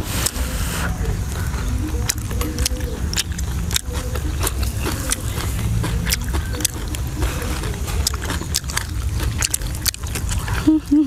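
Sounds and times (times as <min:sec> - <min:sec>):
low rumble: 0:00.0 - 0:11.0
mouth clicks and lip smacks: 0:00.0 - 0:11.0
person chewing: 0:00.0 - 0:11.0.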